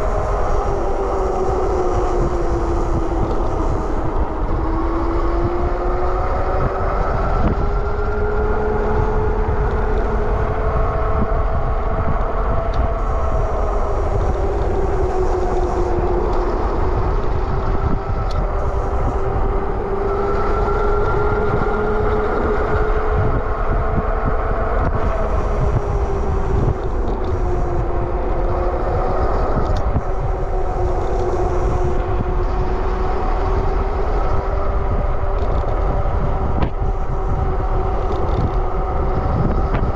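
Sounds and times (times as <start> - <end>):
electric bike motor whining: 0.0 - 39.9
wind rumble on microphone: 0.0 - 39.9.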